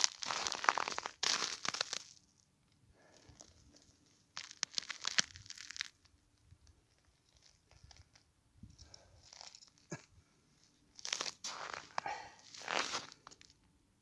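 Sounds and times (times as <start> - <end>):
ice crunching and scraping: 0.0 - 2.3, 3.2 - 6.1, 6.8 - 8.2, 8.8 - 13.6.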